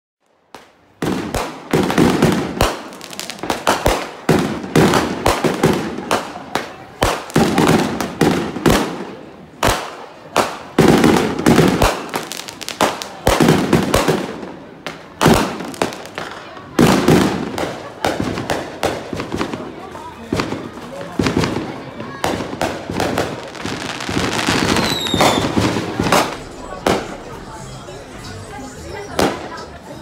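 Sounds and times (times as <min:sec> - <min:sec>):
fireworks bangs and crackles: 0:00.3 - 0:27.6, 0:29.0 - 0:29.8.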